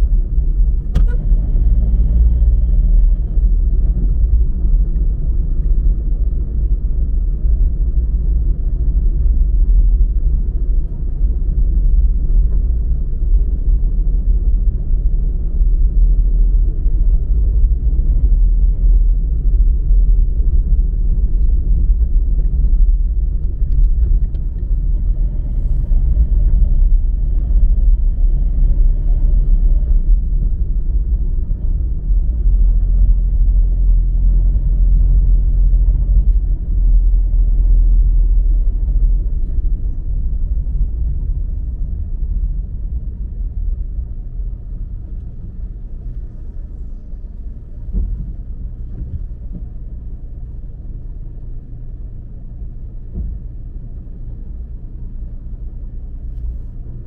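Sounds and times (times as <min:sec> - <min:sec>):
loud low rumble: 0:00.0 - 0:57.0.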